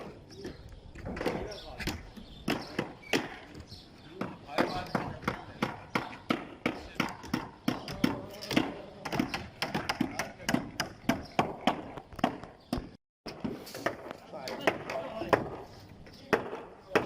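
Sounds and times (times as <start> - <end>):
voices: 0.0 - 10.9, 14.2 - 17.0.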